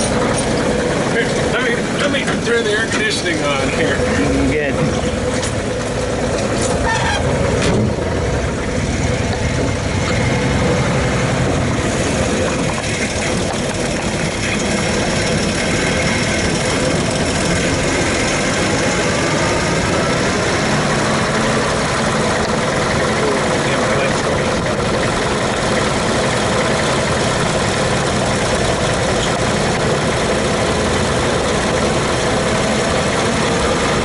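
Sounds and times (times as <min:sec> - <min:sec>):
truck engine running: 0:00.0 - 0:34.0.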